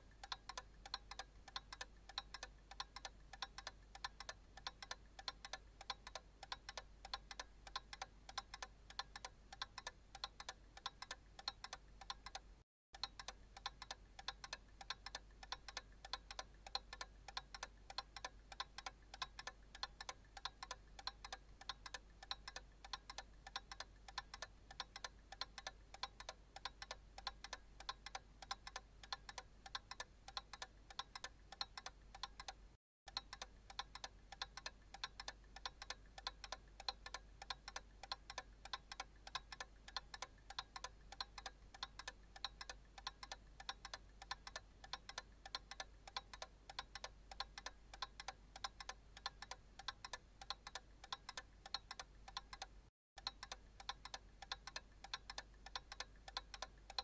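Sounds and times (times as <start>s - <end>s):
analog clock ticking: 0.0s - 57.0s.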